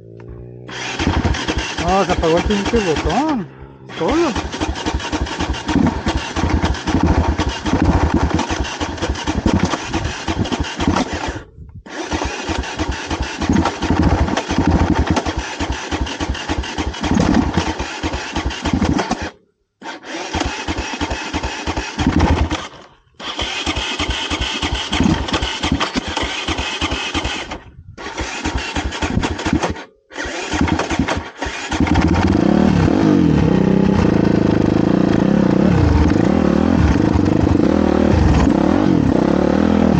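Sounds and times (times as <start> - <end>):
motorcycle engine running choppily: 0.0 - 11.3, 12.1 - 19.3, 20.8 - 22.6, 23.7 - 27.6, 30.5 - 39.9.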